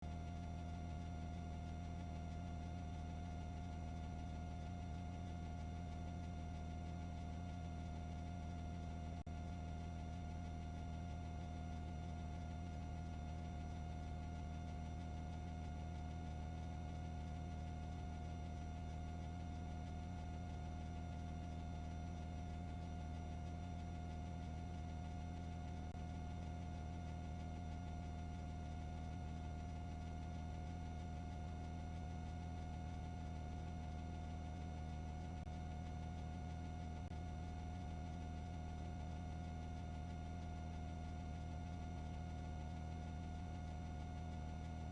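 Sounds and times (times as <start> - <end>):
electrical hum with whine: 0.0 - 44.9.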